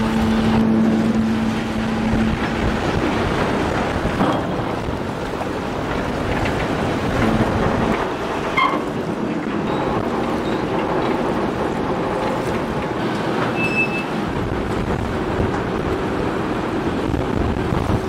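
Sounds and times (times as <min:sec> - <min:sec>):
wind buffeting microphone: 0:00.0 - 0:13.5, 0:14.1 - 0:18.0
ship engines droning: 0:00.0 - 0:18.0.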